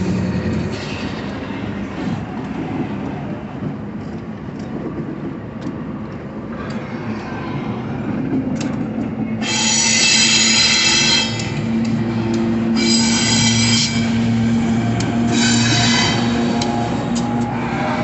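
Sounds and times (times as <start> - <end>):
train wheels squealing on rails: 0.0 - 3.3, 6.5 - 18.0.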